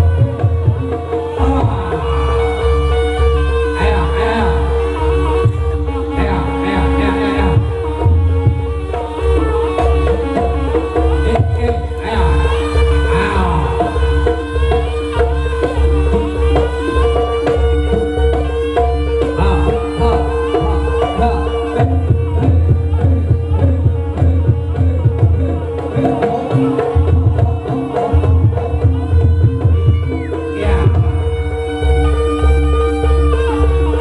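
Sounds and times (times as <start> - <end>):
deep pulsing beat: 0.0 - 3.2, 7.4 - 32.6
hand drums: 0.0 - 34.0
pitched percussion notes: 0.0 - 34.0
wavering melody line: 0.0 - 34.0.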